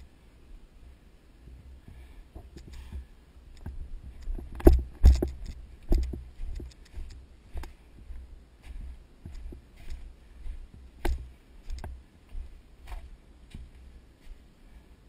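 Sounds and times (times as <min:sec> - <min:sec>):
footsteps: 0:01.6 - 0:14.9.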